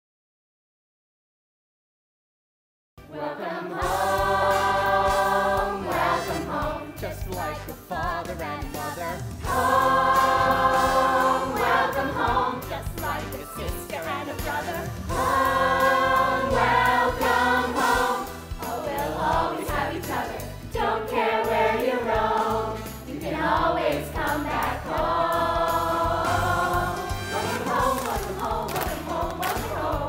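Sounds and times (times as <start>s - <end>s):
chorus singing together: 3.0s - 30.0s.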